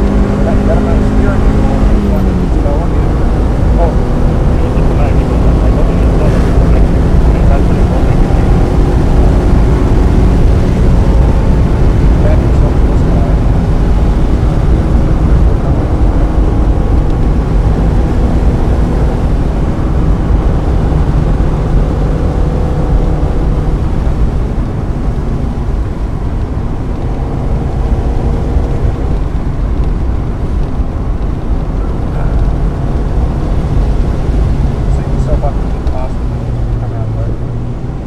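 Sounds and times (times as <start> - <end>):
car engine under load: 0.0 - 38.0
road and wind noise: 0.0 - 38.0.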